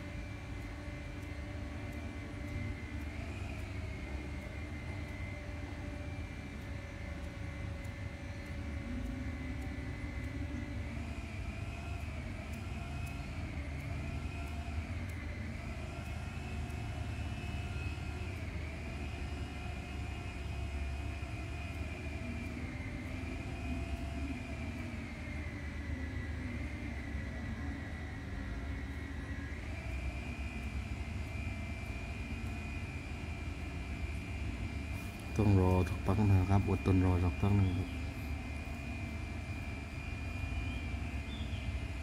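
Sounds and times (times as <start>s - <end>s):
motor drone with low rumble: 0.0s - 42.0s.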